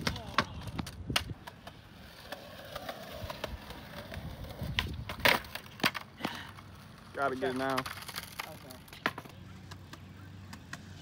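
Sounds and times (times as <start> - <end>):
skateboard deck clacking: 0.0 - 11.0
skateboard wheels rolling on concrete: 0.0 - 11.0.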